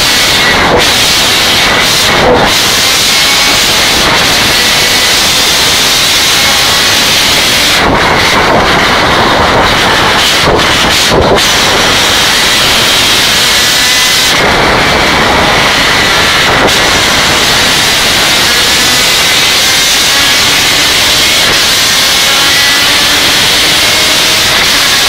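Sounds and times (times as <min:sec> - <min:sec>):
race car engine: 0:00.0 - 0:25.0
wind and road noise: 0:00.0 - 0:25.0.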